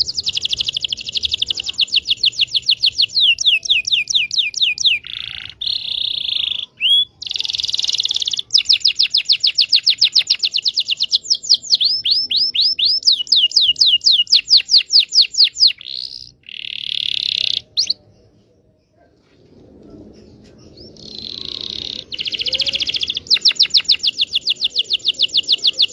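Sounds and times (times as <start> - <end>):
canary singing trills: 0.0 - 19.0, 20.2 - 25.9.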